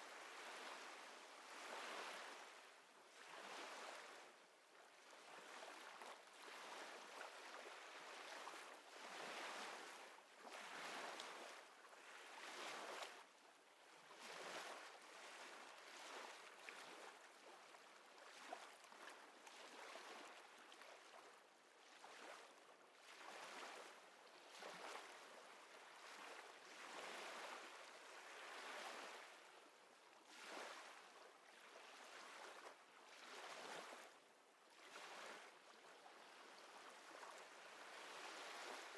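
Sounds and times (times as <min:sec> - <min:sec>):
small waves lapping: 0:00.1 - 0:13.3, 0:14.0 - 0:38.9.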